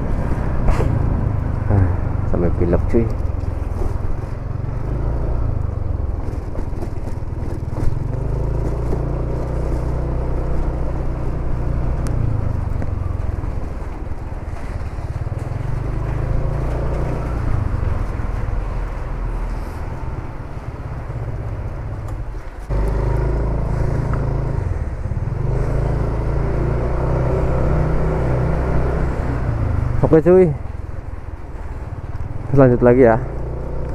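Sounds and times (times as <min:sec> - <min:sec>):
motorcycle engine running: 0:00.0 - 0:33.9
road noise: 0:00.0 - 0:33.9.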